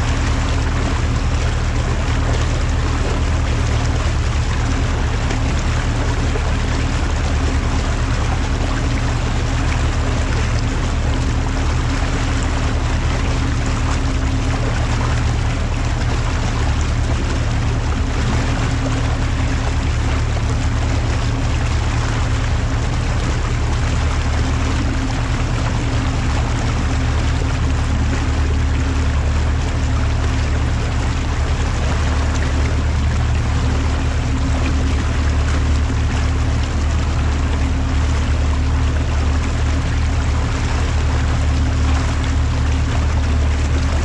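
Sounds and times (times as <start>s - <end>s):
outboard motor running: 0.0s - 44.0s
water rushing past hull: 0.0s - 44.0s.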